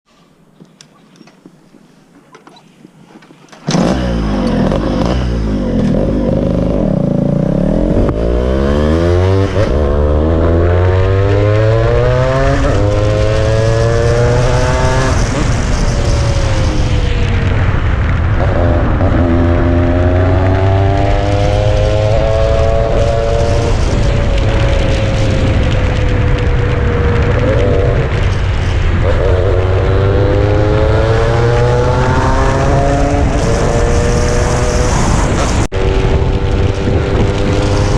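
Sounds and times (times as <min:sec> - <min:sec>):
motorcycle engine revving: 0:03.5 - 0:37.9.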